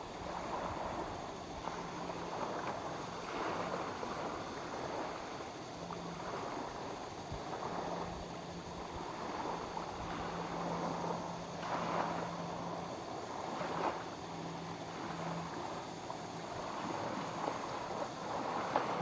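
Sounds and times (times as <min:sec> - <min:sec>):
lake waves lapping at shore: 0:00.0 - 0:19.0.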